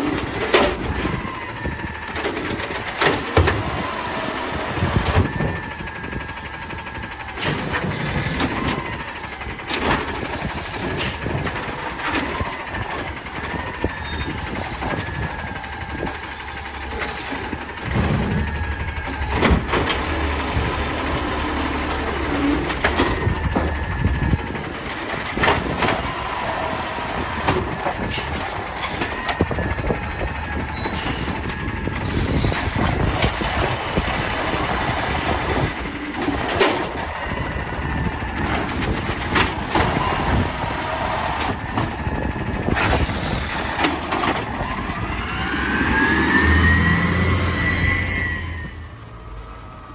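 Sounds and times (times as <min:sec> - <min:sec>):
metal clanks and knocks: 0:00.0 - 0:45.1
diesel engine running: 0:00.0 - 0:49.9.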